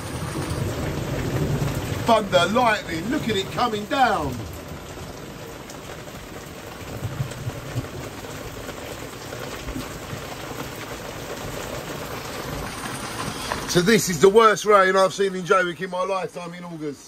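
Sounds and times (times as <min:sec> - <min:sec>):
torrential rain: 0:00.0 - 0:17.0.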